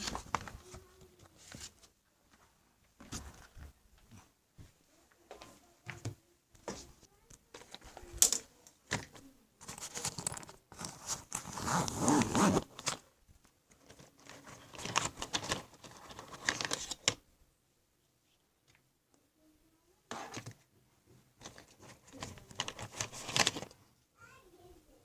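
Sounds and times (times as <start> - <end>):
rustling and crinkling: 0.0 - 17.2, 20.1 - 23.9.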